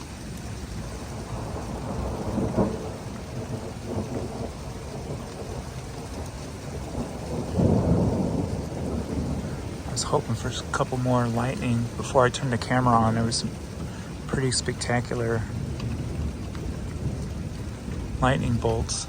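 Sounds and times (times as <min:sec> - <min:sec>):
steady rain: 0:00.0 - 0:19.0
thunder rumbling: 0:00.4 - 0:19.0.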